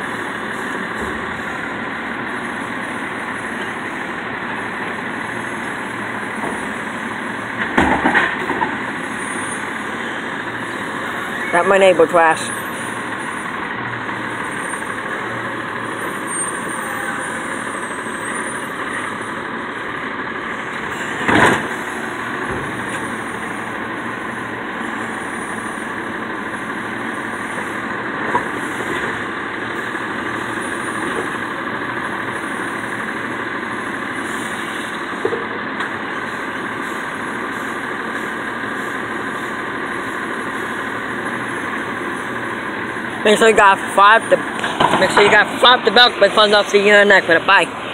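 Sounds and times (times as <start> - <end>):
garbage truck running: 0.0 - 47.9
truck arm lifting trash carts: 0.0 - 47.9.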